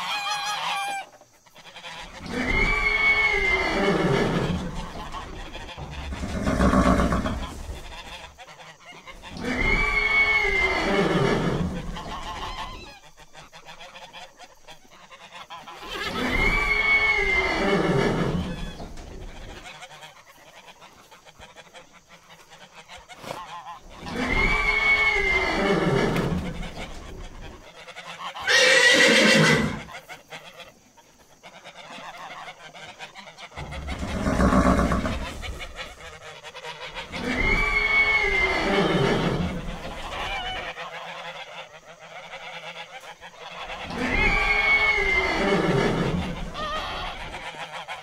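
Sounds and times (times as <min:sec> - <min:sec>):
farm animal calling: 0:00.0 - 0:48.0.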